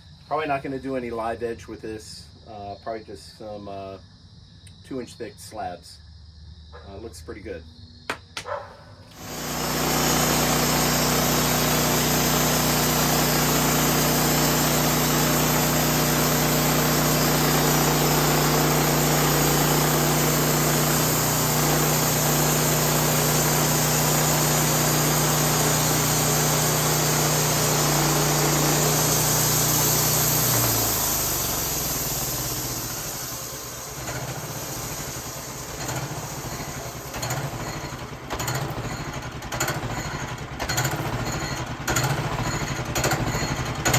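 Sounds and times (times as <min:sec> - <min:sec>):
saw blade cutting log: 0:08.4 - 0:43.9
sawmill engine running: 0:08.4 - 0:43.9.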